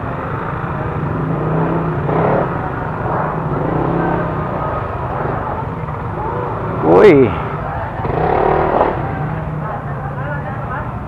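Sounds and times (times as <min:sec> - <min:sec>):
motor scooter engine: 0:00.0 - 0:09.8
street traffic noise: 0:00.0 - 0:11.0.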